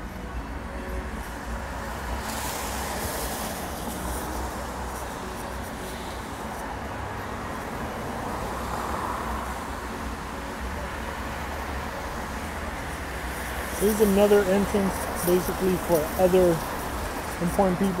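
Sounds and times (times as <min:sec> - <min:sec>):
cars passing on wet street: 0:00.0 - 0:18.0.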